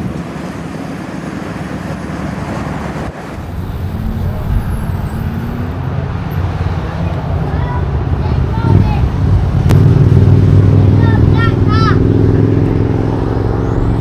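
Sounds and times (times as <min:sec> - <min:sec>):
car engine running: 0:00.0 - 0:14.0
traffic and road noise: 0:00.0 - 0:14.0.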